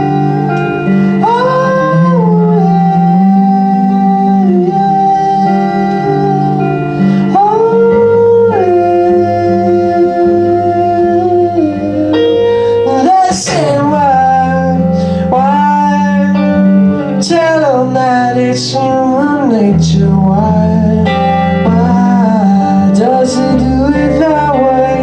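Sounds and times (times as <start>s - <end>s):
acoustic guitar: 0.0s - 25.0s
person singing wordless notes: 0.0s - 25.0s.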